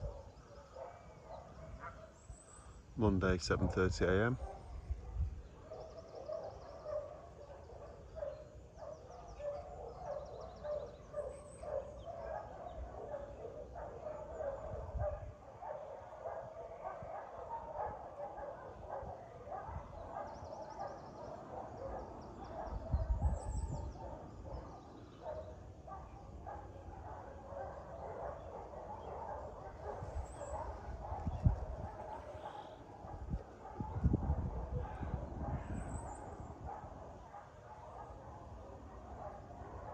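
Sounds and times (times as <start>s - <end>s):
many dogs barking: 0.0s - 39.9s.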